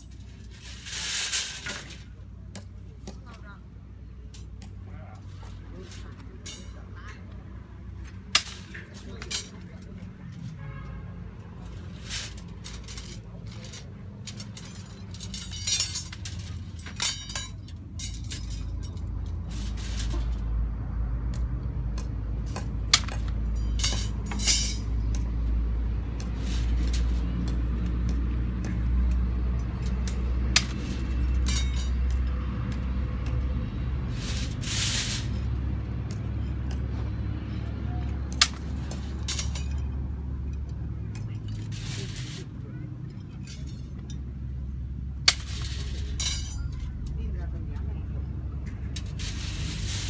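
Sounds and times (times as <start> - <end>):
rebar and wire clanking: 0.0 - 3.4, 4.2 - 20.7, 21.3 - 50.0.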